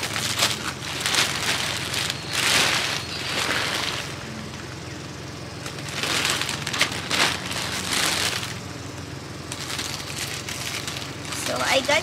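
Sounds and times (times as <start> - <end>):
plastic bags rustling and crinkling: 0.0 - 4.2, 5.6 - 8.6, 9.5 - 12.0.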